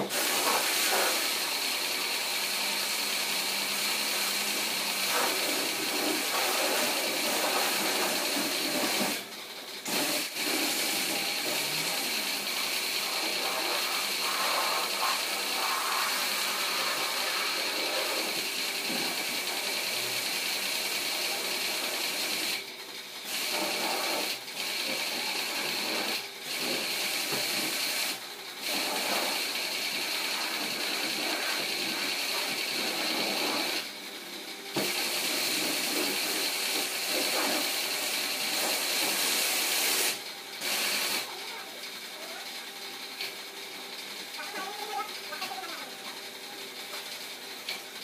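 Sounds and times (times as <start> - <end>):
pressure washer spraying water: 0.0 - 22.6, 23.2 - 34.0, 34.7 - 41.6.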